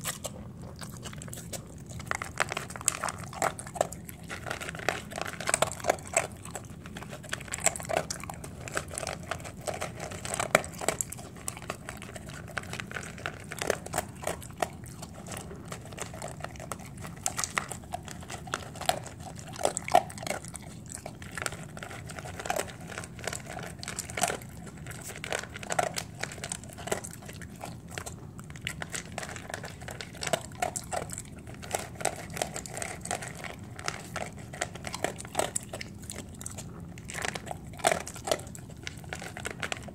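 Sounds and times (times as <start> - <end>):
dog crunching dry kibble: 0.0 - 39.9.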